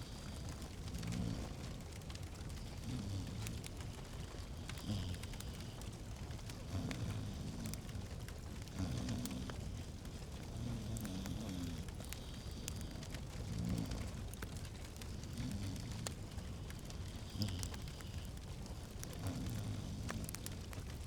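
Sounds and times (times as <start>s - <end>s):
steady fire hiss: 0.0s - 21.0s
wood fire crackling: 0.0s - 21.0s.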